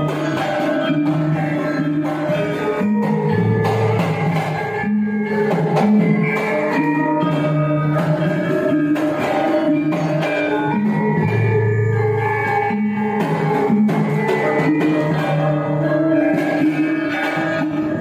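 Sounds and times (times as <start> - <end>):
hand drum strokes: 0.0 - 18.0
metallophones ringing: 0.0 - 18.0.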